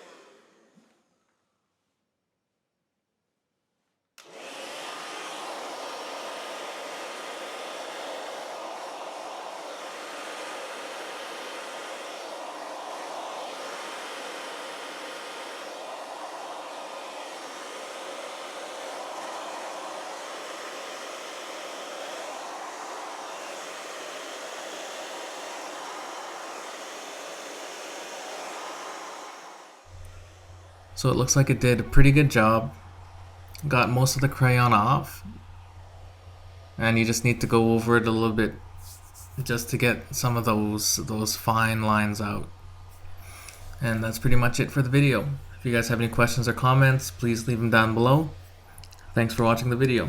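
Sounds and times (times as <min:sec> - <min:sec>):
hair dryer blowing: 0:00.0 - 0:01.4, 0:04.2 - 0:50.0.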